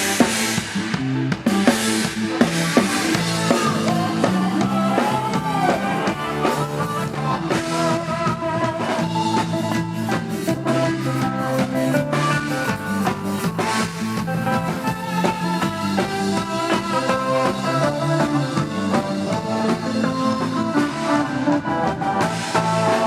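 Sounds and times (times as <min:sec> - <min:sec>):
drum kit playing a steady beat: 0:00.0 - 0:23.0
electric guitar: 0:00.0 - 0:23.0
live band music: 0:00.0 - 0:23.0.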